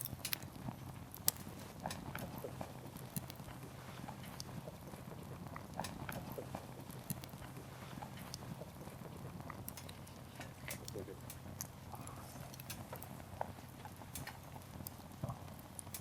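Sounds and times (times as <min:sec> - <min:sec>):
campfire crackling: 0:00.0 - 0:16.0
low rumble of flames: 0:00.0 - 0:16.0.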